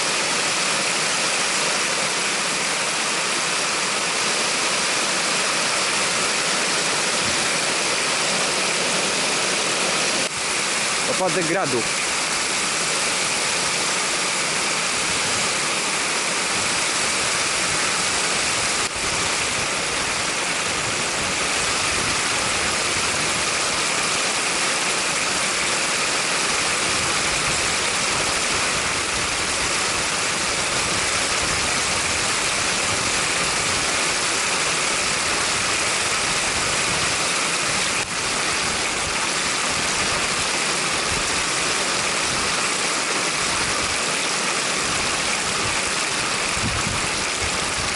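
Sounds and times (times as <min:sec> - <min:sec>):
hail and heavy rain: 0:00.0 - 0:47.9.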